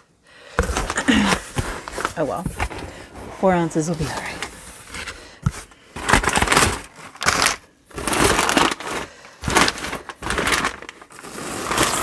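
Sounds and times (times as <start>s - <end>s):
packing paper rustling: 0.6s - 12.0s.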